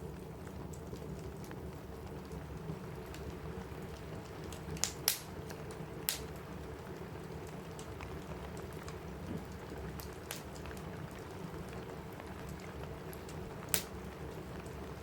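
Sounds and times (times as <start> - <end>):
rain on a roof: 0.0 - 15.0
wood fire crackling: 0.0 - 15.0.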